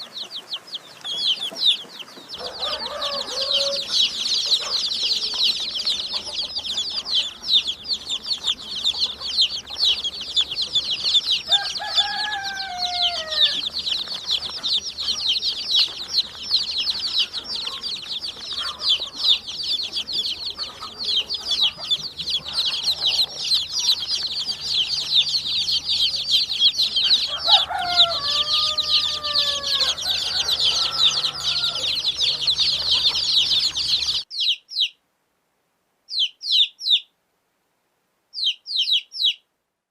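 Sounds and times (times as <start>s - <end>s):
chicks peeping: 0.0s - 35.0s, 36.1s - 37.1s, 38.4s - 39.4s
lower falling bird calls: 0.0s - 35.0s, 36.1s - 37.1s, 38.3s - 39.4s.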